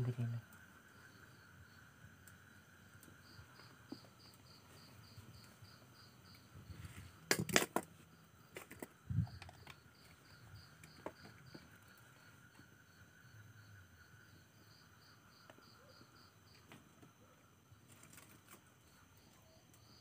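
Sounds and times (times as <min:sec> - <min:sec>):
night insects chirping: 0:00.0 - 0:20.0.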